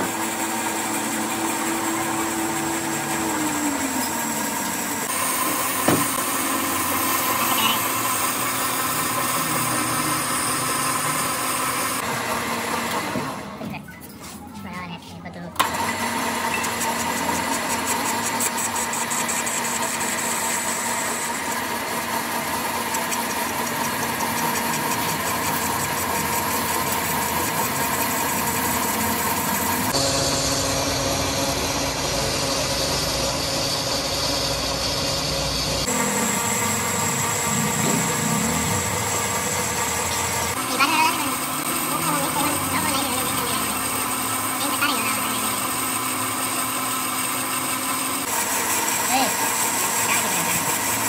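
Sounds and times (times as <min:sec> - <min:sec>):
metal lathe running with whine: 0:00.0 - 0:13.6, 0:15.6 - 0:51.0.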